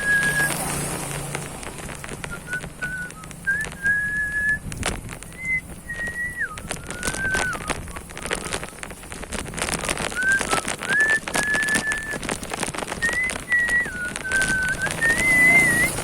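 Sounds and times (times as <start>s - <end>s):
high whistle-like tone: 0.0s - 0.6s, 2.2s - 8.8s, 10.0s - 16.0s
bicycle rattling on rough trail: 0.0s - 16.0s.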